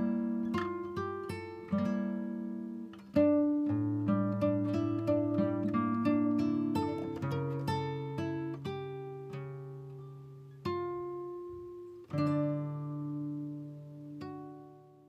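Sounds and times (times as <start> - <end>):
acoustic guitar chords: 0.0 - 15.0
acoustic guitar plucked notes: 0.0 - 15.0.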